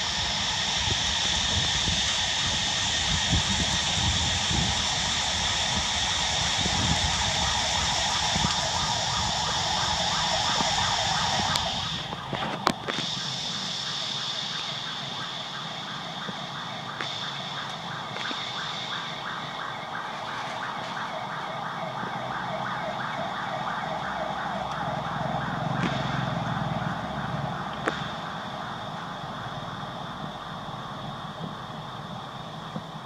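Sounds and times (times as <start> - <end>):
forest insects droning: 0.0 - 33.0.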